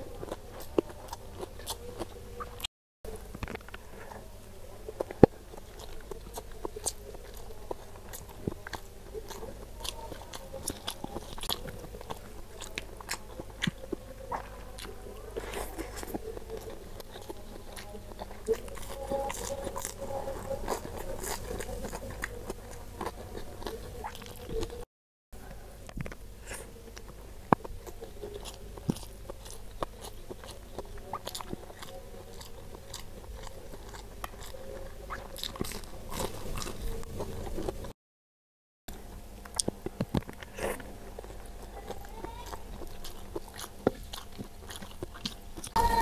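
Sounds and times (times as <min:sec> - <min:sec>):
chewing and crunching: 0:00.0 - 0:38.0, 0:38.9 - 0:46.0.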